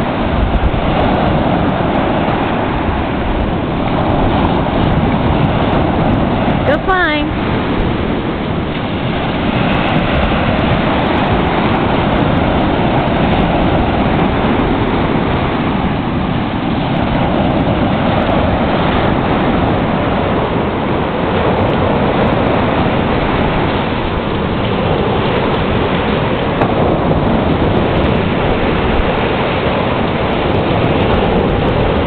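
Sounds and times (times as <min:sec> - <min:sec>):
surf washing onto beach: 0:00.0 - 0:32.0.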